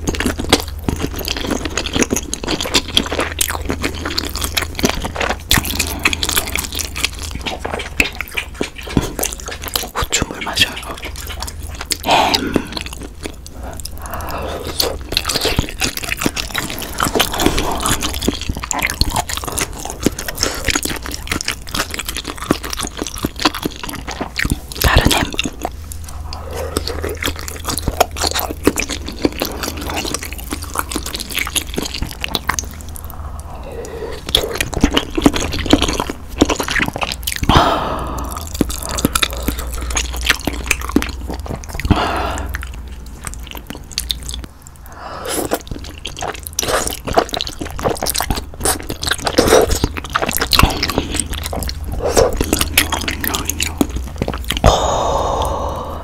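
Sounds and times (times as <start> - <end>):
wet chewing and mouth sounds: 0.0 - 56.0.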